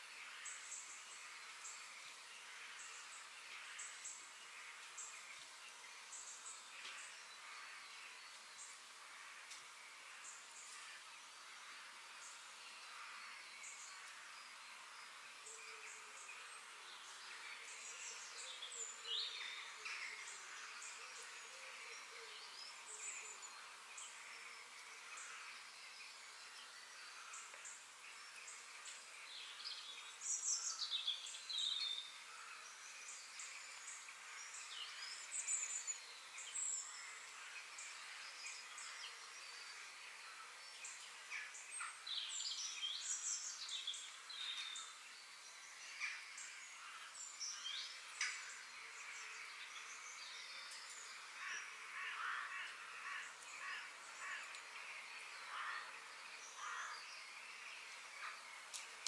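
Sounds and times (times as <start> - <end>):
faint background hiss: 0.0 - 59.0
songbirds chirping and whistling: 0.0 - 59.0.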